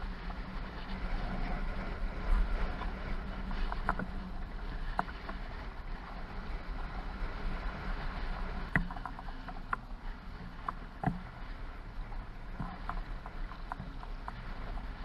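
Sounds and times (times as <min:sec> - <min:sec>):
wind and water hiss: 0:00.0 - 0:15.0.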